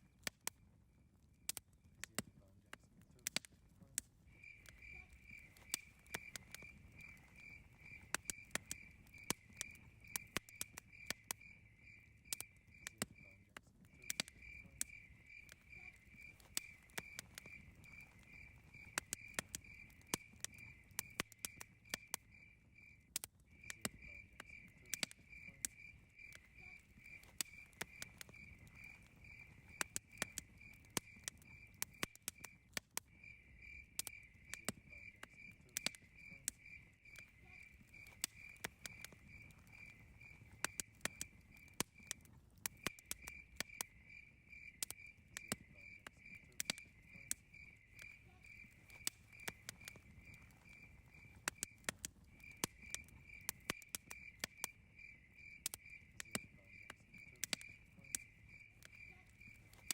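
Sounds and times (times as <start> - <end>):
campfire crackling and popping: 0.0 - 59.9
cricket chirping: 3.8 - 59.9.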